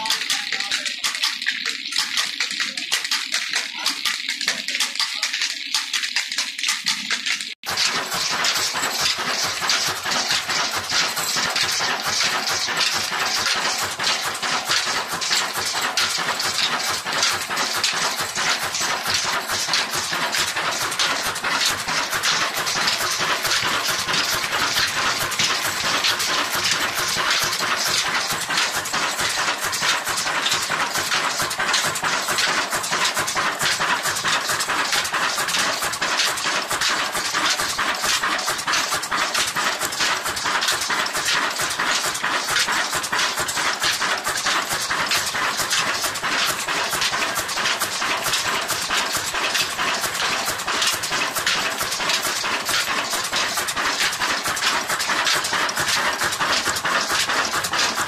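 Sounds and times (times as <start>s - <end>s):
diesel engine clattering: 7.6s - 58.0s.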